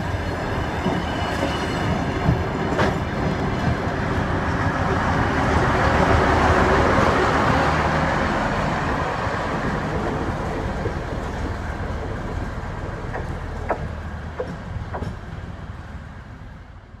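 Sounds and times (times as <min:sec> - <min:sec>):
diesel train passing: 0:00.0 - 0:17.0.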